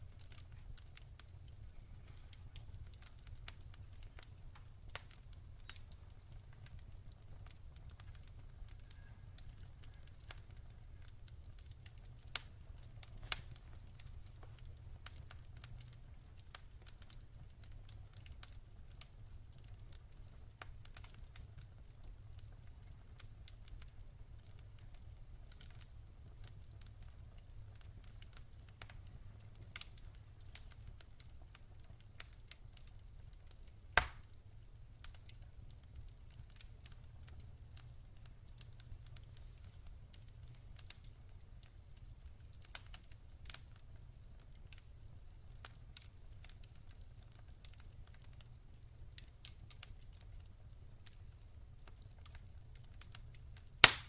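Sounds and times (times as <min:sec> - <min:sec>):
wood campfire crackling: 0:00.0 - 0:54.0.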